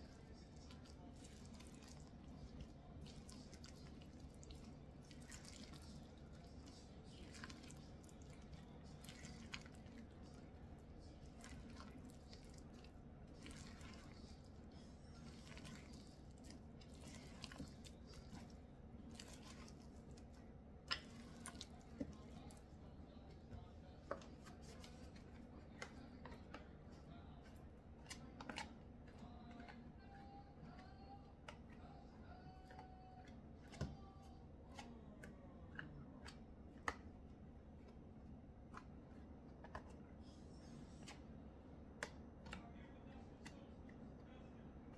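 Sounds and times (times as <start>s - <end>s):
dough squishing and crackling: 0.0s - 44.9s
low steady hum: 0.0s - 44.9s.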